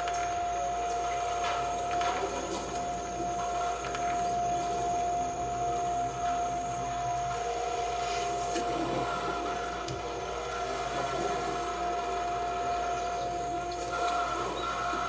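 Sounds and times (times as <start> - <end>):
high whistling tones: 0.0 - 15.0
oscillator drone: 0.0 - 15.0.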